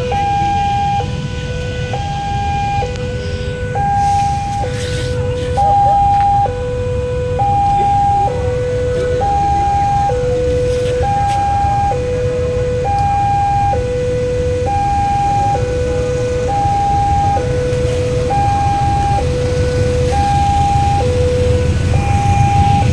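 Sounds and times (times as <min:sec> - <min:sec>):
continuous low rumble: 0:00.0 - 0:22.9
two-tone level-crossing siren: 0:00.0 - 0:22.9.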